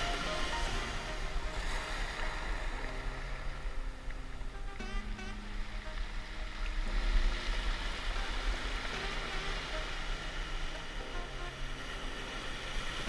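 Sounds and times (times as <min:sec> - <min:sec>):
sea water surging against shore: 0:00.0 - 0:13.0
wind rumbling on microphone: 0:00.0 - 0:13.0.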